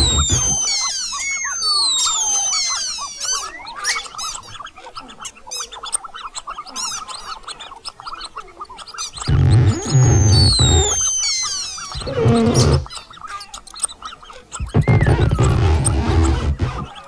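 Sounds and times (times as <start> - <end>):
mouse squeaking: 0.0 - 17.0.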